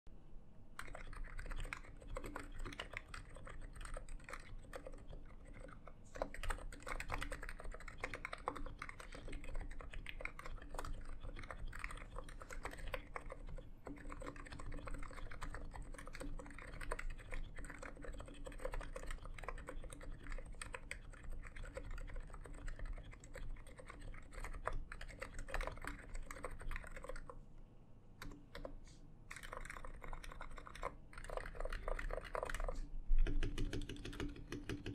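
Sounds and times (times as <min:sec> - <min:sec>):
soft keyboard typing: 0:00.7 - 0:27.4, 0:28.2 - 0:34.9.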